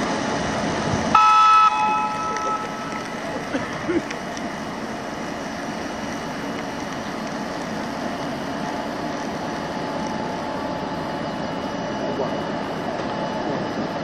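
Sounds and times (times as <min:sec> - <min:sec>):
electric locomotive running: 0:00.0 - 0:14.0.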